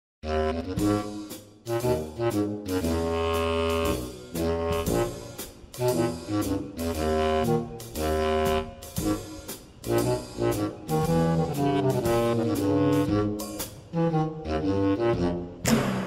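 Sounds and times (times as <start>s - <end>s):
jazzy brass music: 0.2s - 16.0s.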